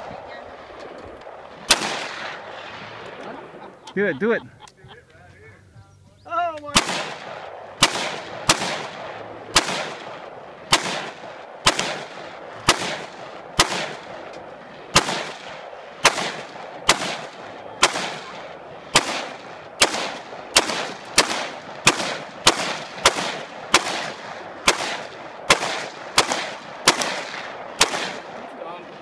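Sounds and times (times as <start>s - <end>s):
rifle shots echoing: 0.0s - 3.7s, 6.7s - 29.0s.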